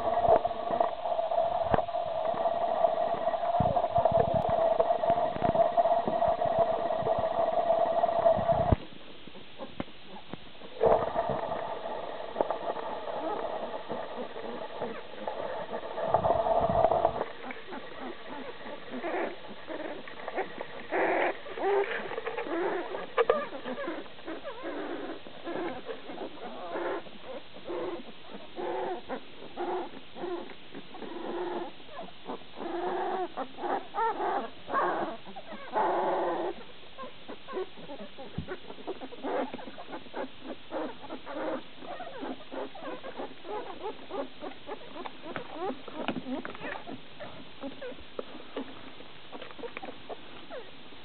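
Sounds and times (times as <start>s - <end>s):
puppies whimpering and squeaking: 9.4s - 50.8s.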